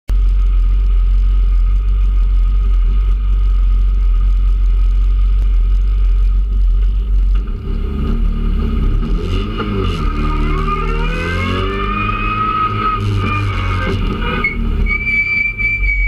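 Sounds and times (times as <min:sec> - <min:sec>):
car engine revving: 0:00.2 - 0:16.0.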